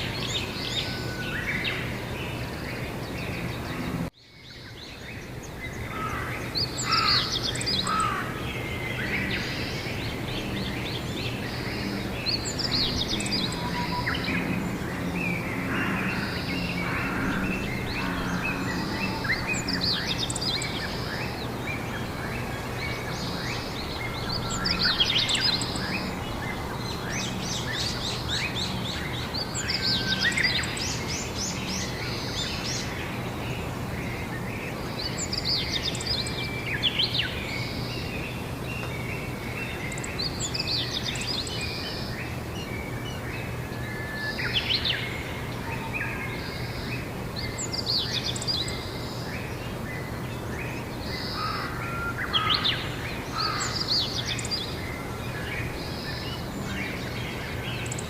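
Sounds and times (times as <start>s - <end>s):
birds trilling and chirping: 0.0s - 58.0s.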